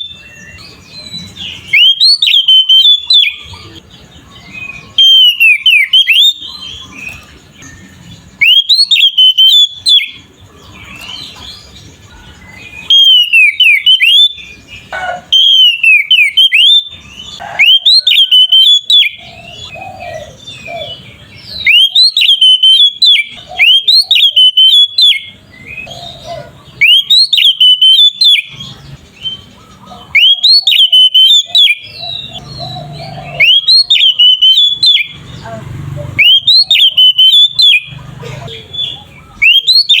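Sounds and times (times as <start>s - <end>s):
bird singing whistled phrases: 0.0s - 3.8s, 4.4s - 10.3s, 12.1s - 14.6s, 15.3s - 35.4s, 36.2s - 38.0s, 38.6s - 40.0s
soft bird twittering: 0.0s - 40.0s.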